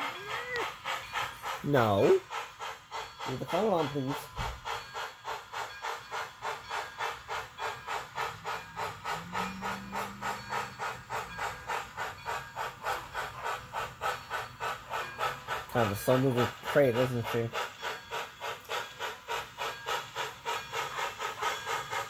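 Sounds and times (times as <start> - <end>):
model steam locomotive chuffs: 0.0 - 22.0.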